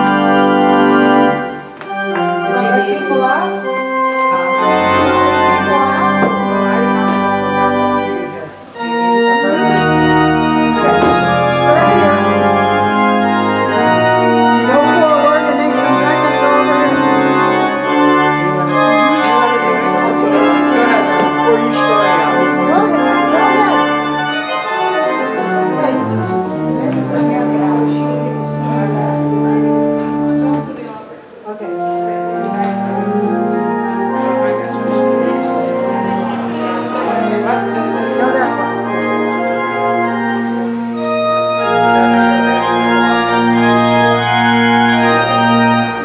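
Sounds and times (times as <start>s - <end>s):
church organ playing chords: 0.0s - 46.0s
people talking quietly: 0.0s - 46.0s.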